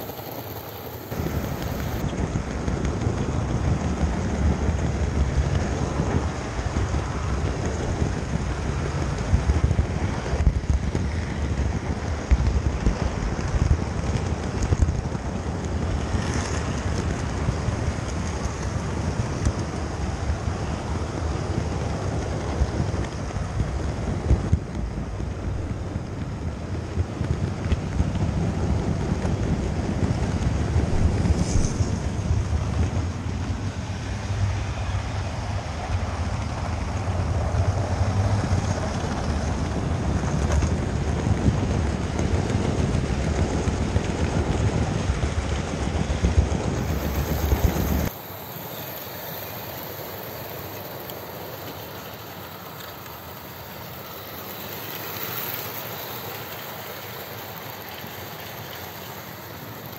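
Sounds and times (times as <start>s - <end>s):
model train rumbling on track: 0.0s - 59.9s.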